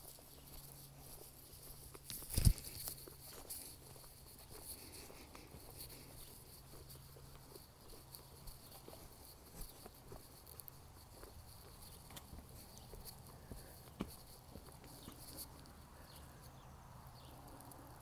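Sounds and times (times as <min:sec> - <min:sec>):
insects chirring: 0:00.0 - 0:18.0
soft footsteps on dry dirt: 0:00.0 - 0:18.0.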